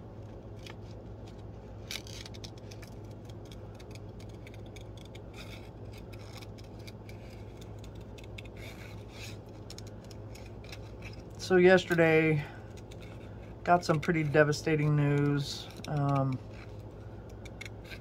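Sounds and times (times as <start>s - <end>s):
steady low hum: 0.0s - 18.0s
scissors snipping cardstock: 1.8s - 11.3s, 12.7s - 18.0s.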